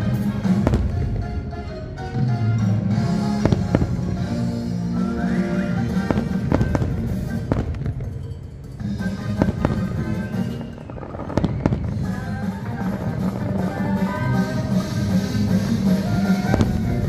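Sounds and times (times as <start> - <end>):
fireworks bursting with sharp bangs: 0.0 - 17.0
soundtrack music: 0.0 - 17.0.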